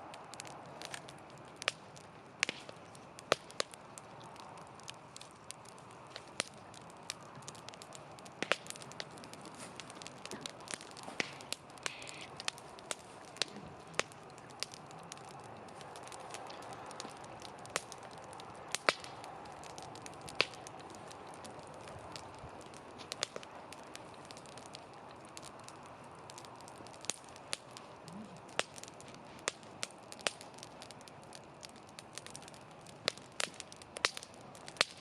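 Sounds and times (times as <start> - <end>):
campfire crackling and popping: 0.0 - 35.0
hiss of flame: 0.1 - 35.0.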